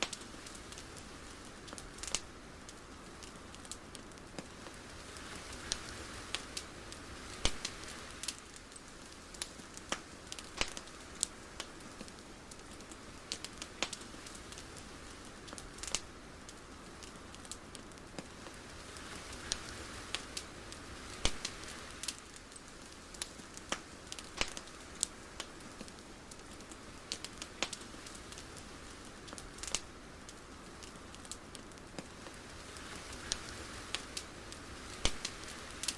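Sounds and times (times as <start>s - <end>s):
sharp crackles and clicks: 0.0s - 35.9s
soft steady hiss: 0.0s - 35.9s.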